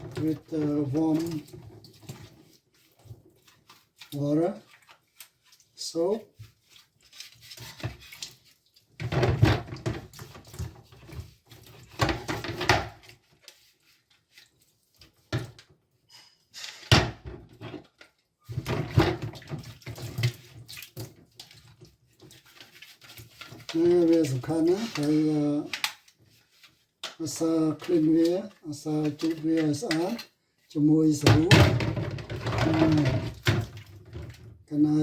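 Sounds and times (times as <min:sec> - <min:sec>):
tap water running: 0:00.0 - 0:15.8, 0:17.1 - 0:35.0.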